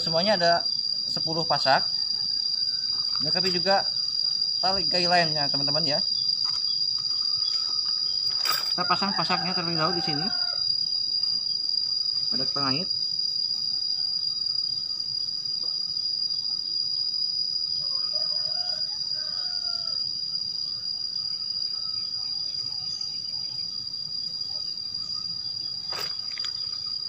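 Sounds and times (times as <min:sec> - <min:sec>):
insects droning trill: 0:00.0 - 0:27.0.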